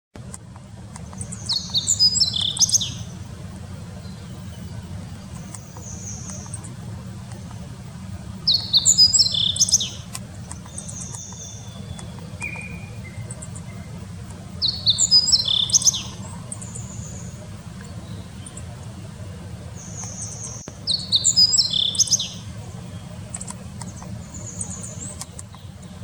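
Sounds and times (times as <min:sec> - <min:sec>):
songbird chirping: 0:00.2 - 0:26.0
steady low rumble: 0:00.2 - 0:26.0.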